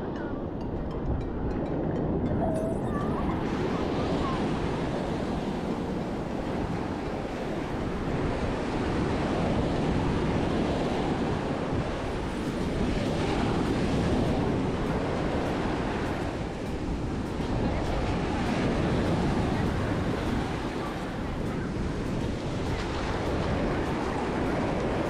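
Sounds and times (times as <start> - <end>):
wind on microphone: 0.0 - 25.0
ocean surf breaking: 2.4 - 25.0.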